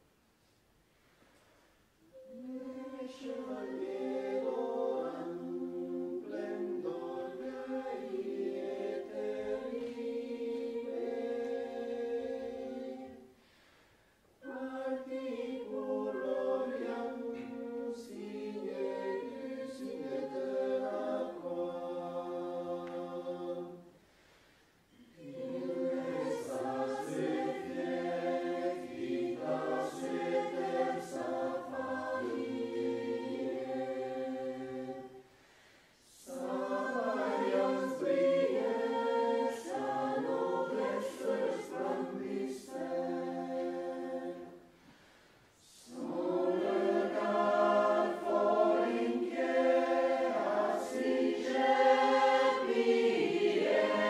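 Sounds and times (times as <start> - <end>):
choir singing: 2.0 - 13.4, 14.4 - 24.0, 24.9 - 44.9, 45.6 - 54.0.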